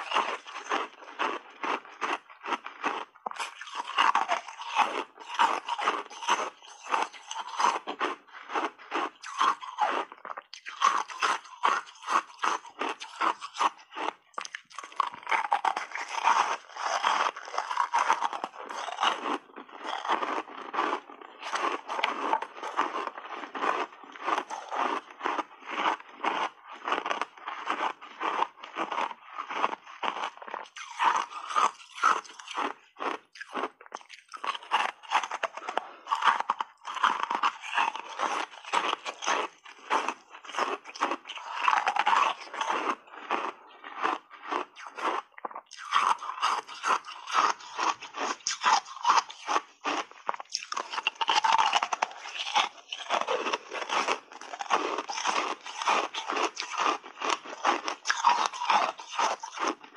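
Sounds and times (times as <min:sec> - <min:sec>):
ice crunching between teeth: 0:00.0 - 0:59.9.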